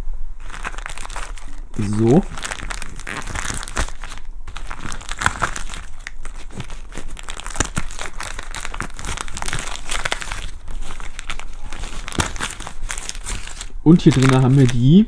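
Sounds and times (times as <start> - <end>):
gift wrapping crinkling and tearing: 0.4 - 15.0.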